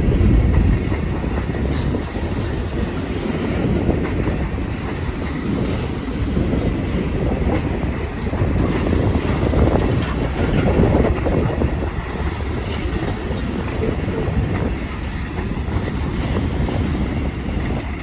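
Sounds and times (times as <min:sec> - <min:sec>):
clicks and knocks of train cars: 0:00.0 - 0:18.0
train wheels rumbling on rail: 0:00.0 - 0:18.0.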